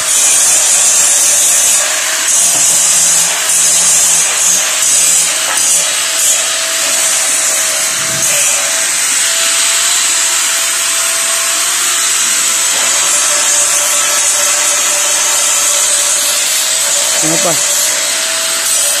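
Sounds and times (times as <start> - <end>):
loud high hiss: 0.0 - 19.0.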